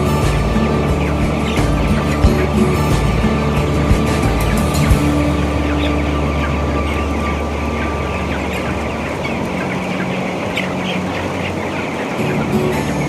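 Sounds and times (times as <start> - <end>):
chickens peeping and clucking: 0.0 - 13.0
exhaust fans humming: 0.0 - 13.0.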